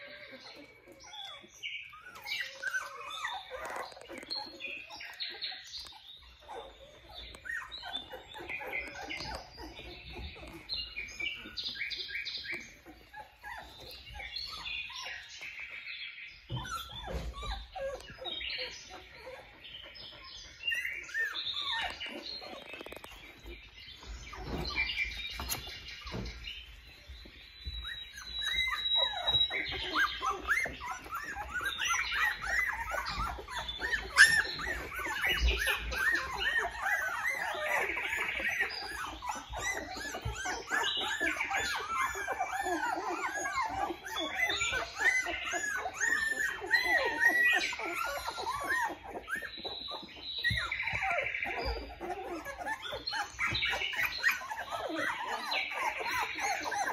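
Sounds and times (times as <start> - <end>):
puppies squeaking and whimpering: 0.0 - 56.9.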